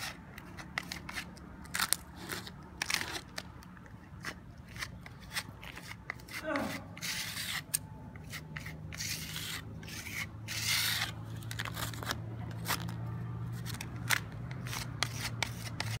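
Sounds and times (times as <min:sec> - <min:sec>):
trowel scraping wet cement: 0:00.0 - 0:13.0, 0:13.6 - 0:16.0.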